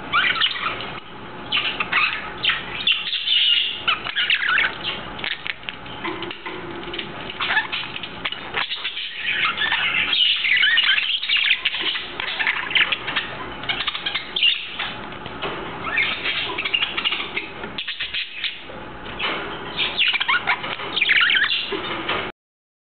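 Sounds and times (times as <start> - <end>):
budgies chattering: 0.1 - 15.0, 15.8 - 21.9.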